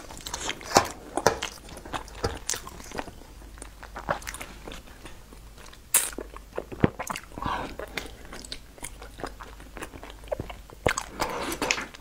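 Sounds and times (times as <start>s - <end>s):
chewing with wet mouth smacks: 1.2s - 12.0s.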